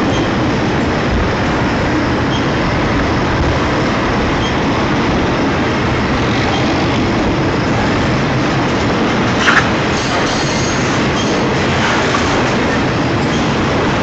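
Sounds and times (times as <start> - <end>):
steel wheels running on rails: 0.0 - 14.0.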